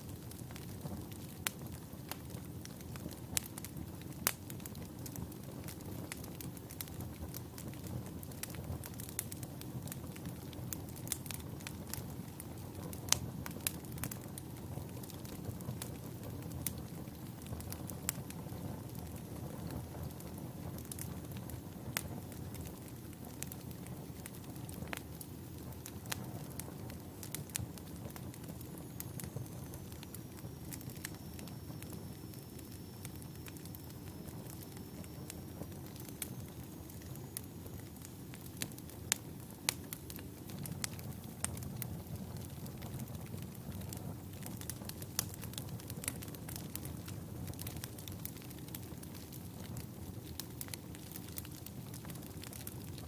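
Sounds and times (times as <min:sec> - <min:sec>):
low flame rumble: 0:00.0 - 0:53.0
wood fire popping and crackling: 0:00.0 - 0:53.0.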